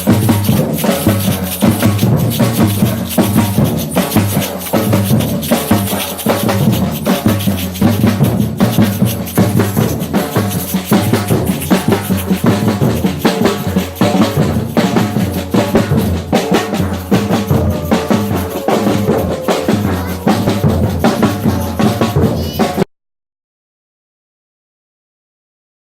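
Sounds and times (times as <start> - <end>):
rapid sharp drum strikes: 0.0 - 22.9.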